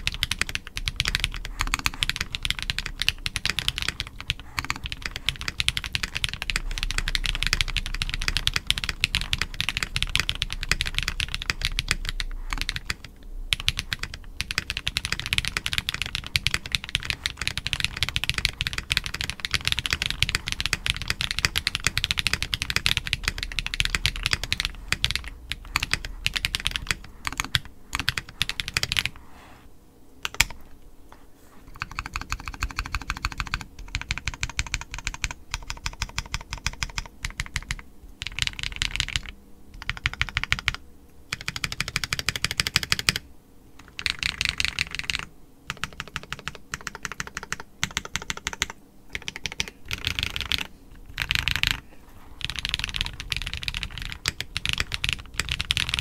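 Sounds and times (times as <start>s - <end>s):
fast typing on mechanical keyboard: 0.0s - 29.1s, 30.2s - 30.6s, 31.7s - 43.2s, 43.8s - 51.8s, 52.4s - 56.0s.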